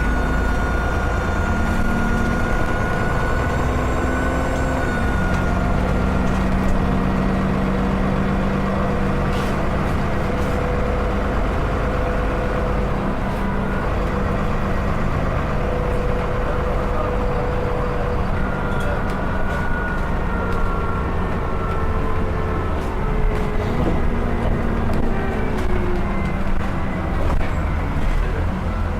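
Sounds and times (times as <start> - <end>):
bus engine running: 0.0 - 28.9.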